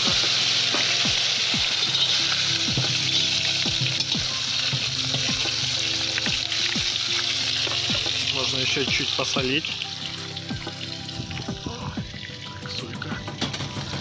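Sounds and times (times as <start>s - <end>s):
food sizzling and crackling in oil: 0.0s - 14.0s.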